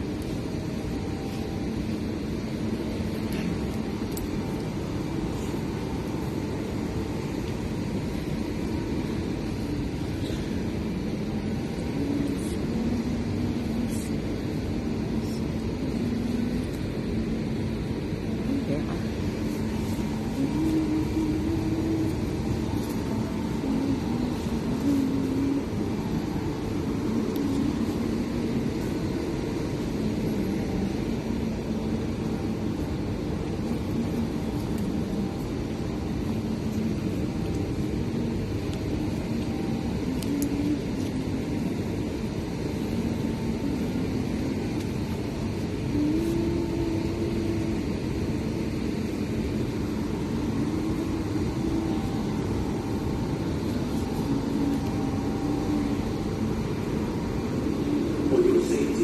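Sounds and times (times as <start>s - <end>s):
faint engine hums: 0.0s - 59.0s
street traffic rumble: 0.0s - 59.0s.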